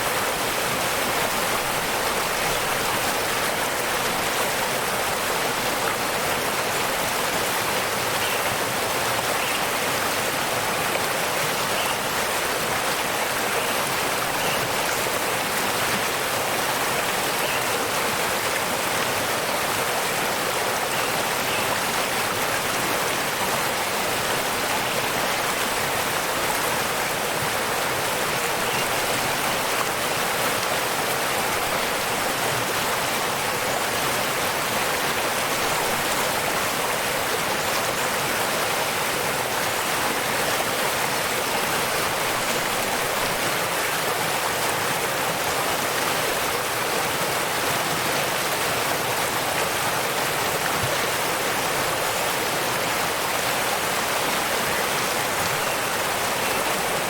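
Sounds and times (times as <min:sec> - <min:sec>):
waterfall rushing into stream: 0:00.0 - 0:57.0.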